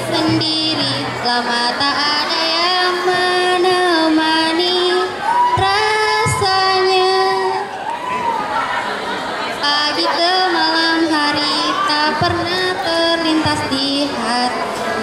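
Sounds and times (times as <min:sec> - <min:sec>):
girl singing into microphone: 0:00.0 - 0:07.8, 0:09.6 - 0:15.0.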